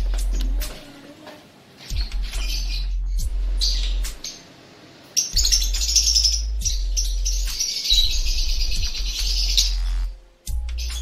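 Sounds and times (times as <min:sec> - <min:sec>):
background music with deep bass: 0:00.0 - 0:00.8, 0:01.9 - 0:04.4, 0:05.3 - 0:11.0
lovebirds chirping: 0:00.0 - 0:11.0.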